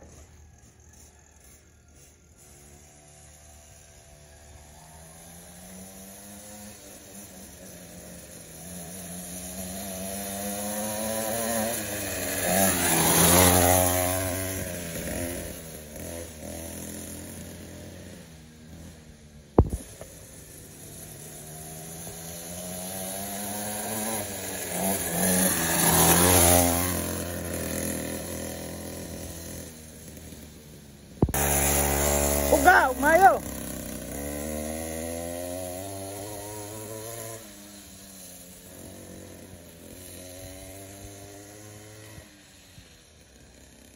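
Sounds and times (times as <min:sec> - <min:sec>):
pocket bike engine passing by: 0:00.0 - 0:43.9.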